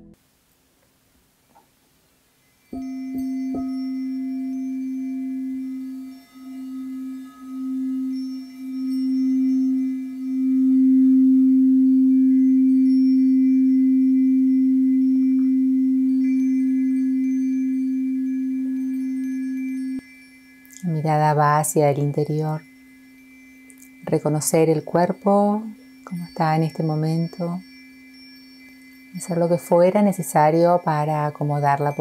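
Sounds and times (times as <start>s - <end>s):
singing bowl low tone: 2.4s - 32.0s
singing bowl struck: 2.6s - 32.0s.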